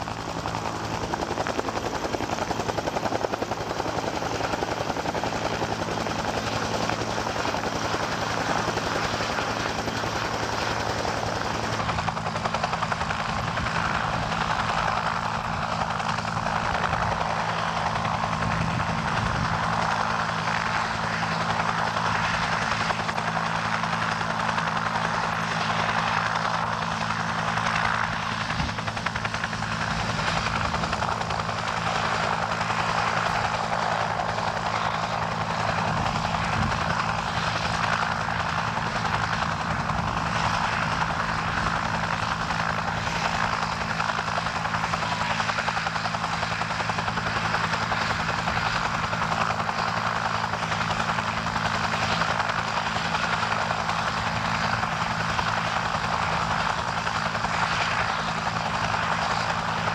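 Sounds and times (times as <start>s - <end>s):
helicopter rotor beating: 0.0s - 59.9s.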